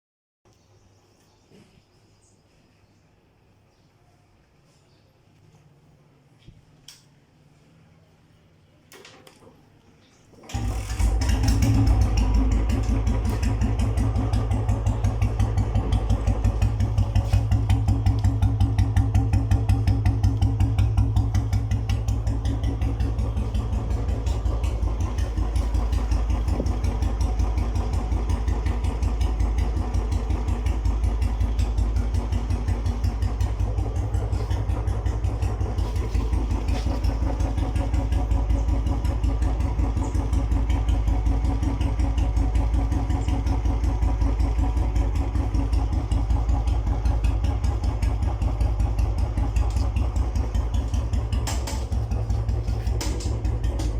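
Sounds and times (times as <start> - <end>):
motorcycle engine idling: 10.5 - 53.9.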